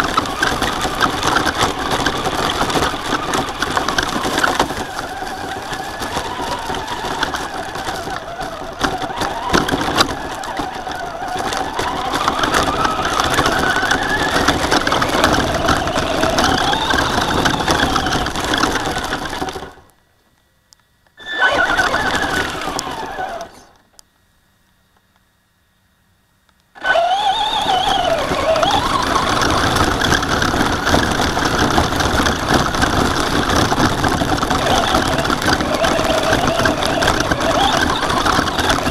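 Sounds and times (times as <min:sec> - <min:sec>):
rc truck motor whine: 0:00.0 - 0:19.9, 0:20.7 - 0:24.0, 0:26.7 - 0:38.9
drivetrain and tyre noise: 0:00.0 - 0:25.2, 0:26.5 - 0:38.9.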